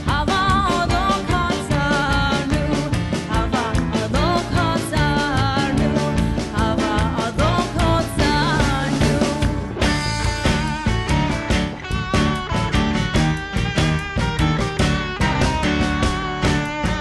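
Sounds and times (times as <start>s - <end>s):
drums driving beat: 0.0s - 17.0s
live band playing dance tune: 0.0s - 17.0s.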